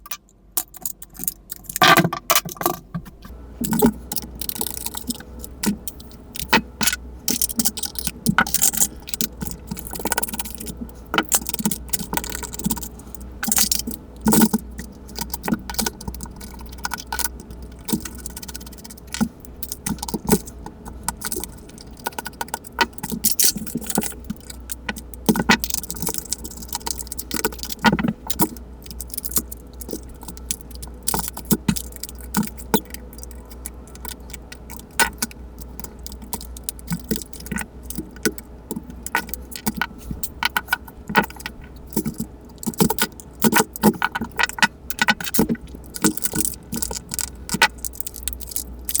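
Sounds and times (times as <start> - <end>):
steady low hum: 0.0 - 49.0
tools clicking and rattling: 0.0 - 49.0.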